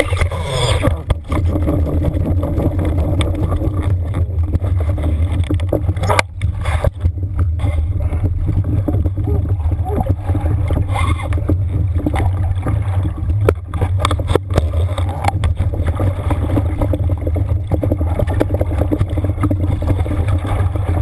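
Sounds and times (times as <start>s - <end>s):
underwater low drone: 0.0s - 21.0s
crackles and knocks from handling: 0.8s - 9.3s, 10.0s - 21.0s.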